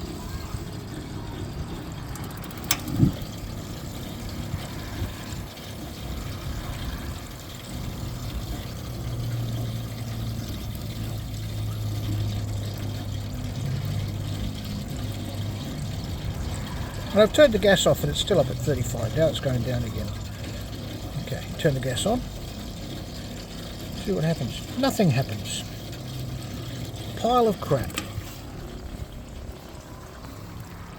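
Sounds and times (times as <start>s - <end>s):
water running through heater: 0.0s - 30.9s.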